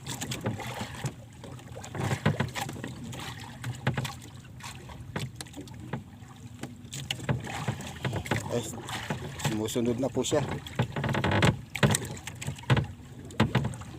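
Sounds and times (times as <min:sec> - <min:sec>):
water slapping against boat hull: 0:00.0 - 0:13.9.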